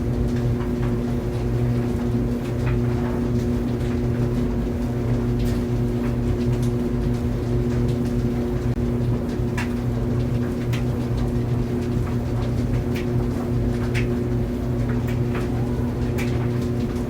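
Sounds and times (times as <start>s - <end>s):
tumble dryer running: 0.0s - 17.0s
ticks and taps from dryer load: 0.2s - 17.0s.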